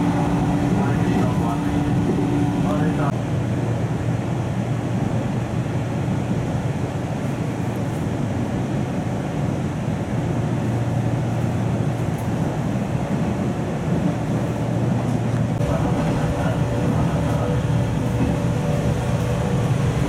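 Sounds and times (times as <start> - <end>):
train running noise: 0.0 - 20.0.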